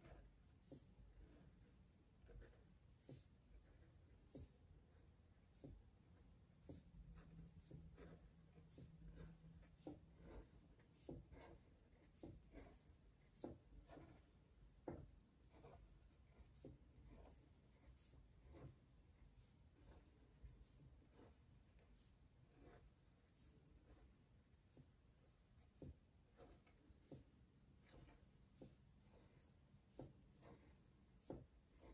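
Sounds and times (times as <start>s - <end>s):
marker scratching on paper: 0.0s - 31.9s.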